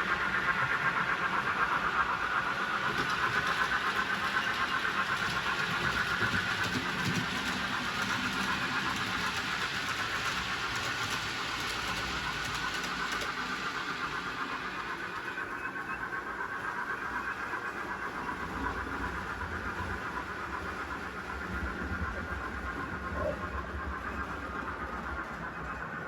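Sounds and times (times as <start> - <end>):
model train motor whir: 0.0 - 23.0
wheels ticking on track: 0.0 - 26.0.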